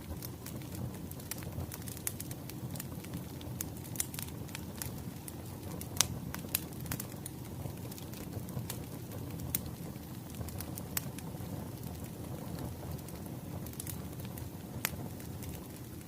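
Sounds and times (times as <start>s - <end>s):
fire pops and snaps: 0.0s - 16.0s
wood fire crackling: 0.0s - 16.0s.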